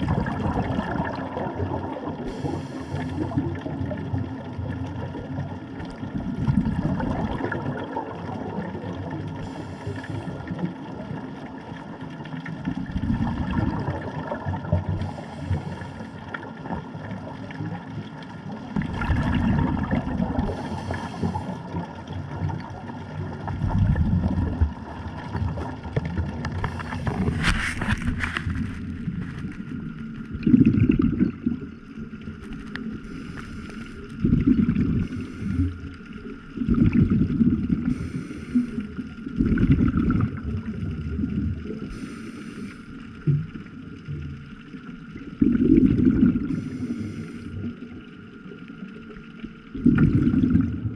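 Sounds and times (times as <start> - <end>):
faint steady hum: 0.0 - 50.9
muffled underwater bubbling: 0.0 - 50.9.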